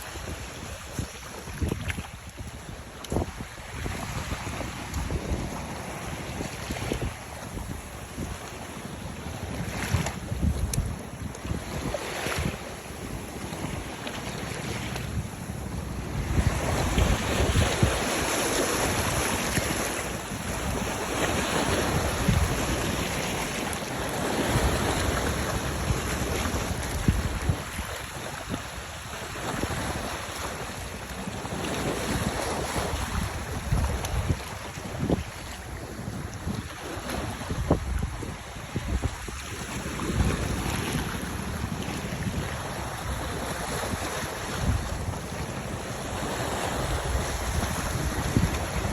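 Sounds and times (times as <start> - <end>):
sea waves washing: 0.0 - 48.9
wind rushing on microphone: 0.0 - 48.9.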